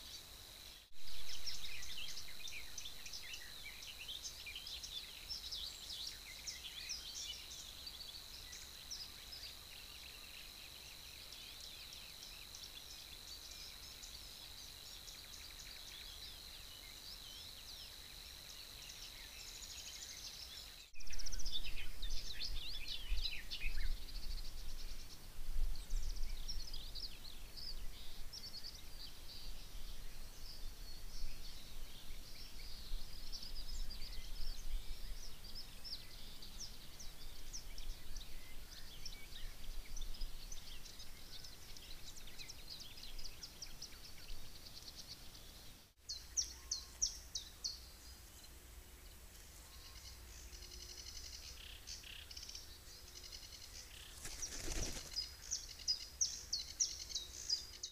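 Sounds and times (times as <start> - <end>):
songbirds chirping and trilling: 0.0 - 57.9.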